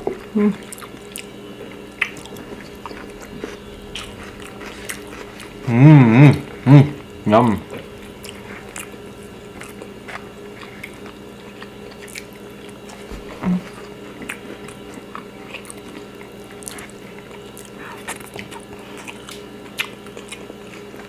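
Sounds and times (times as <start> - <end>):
people chewing and smacking: 0.0 - 21.0.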